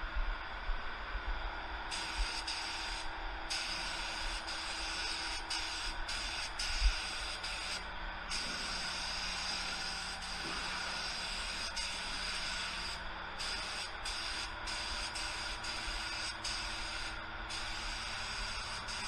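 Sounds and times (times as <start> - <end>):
paint spray gun hissing: 1.9 - 19.0.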